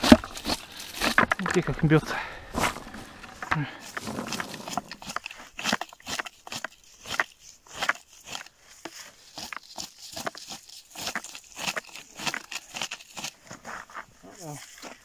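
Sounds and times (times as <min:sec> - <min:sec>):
scoop crunching through moss: 0:00.0 - 0:13.5.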